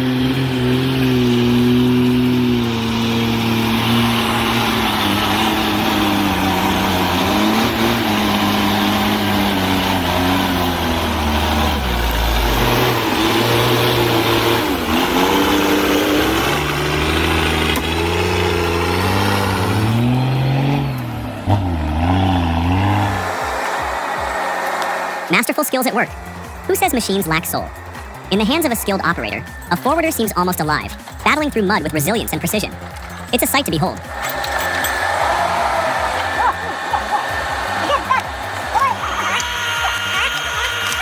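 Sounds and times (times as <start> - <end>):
truck engine labouring: 0.0 - 41.0.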